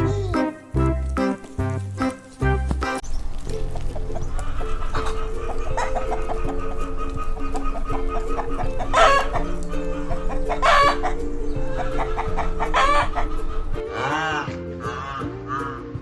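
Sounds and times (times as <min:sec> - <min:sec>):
background music: 0:00.0 - 0:16.0
chickens clucking: 0:02.0 - 0:16.0.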